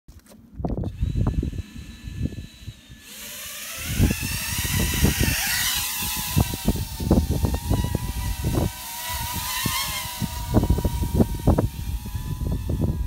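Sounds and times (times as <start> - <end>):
wind buffeting microphone: 0.5 - 3.2, 3.8 - 13.0
drone motors whining: 0.7 - 13.0.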